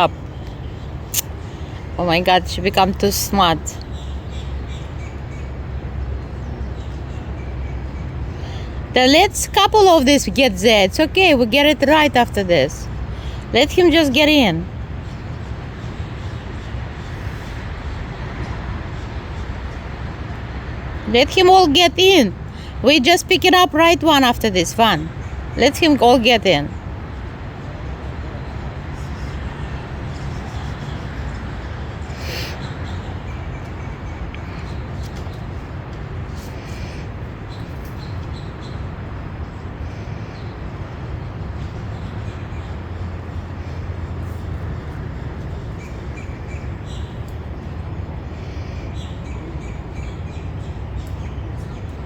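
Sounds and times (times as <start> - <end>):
outdoor rumble and hiss: 0.0 - 52.0.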